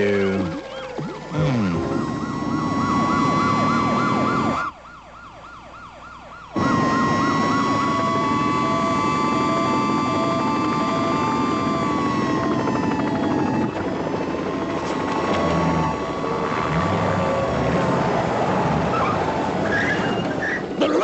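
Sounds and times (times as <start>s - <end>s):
fast warbling siren: 0.0s - 20.8s
siren wail: 0.0s - 20.8s
low vehicle noise: 0.6s - 21.0s.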